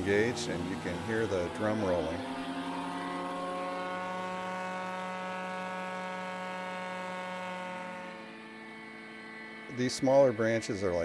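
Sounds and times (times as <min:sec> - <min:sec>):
wood chipper hum and whine: 0:00.0 - 0:11.0.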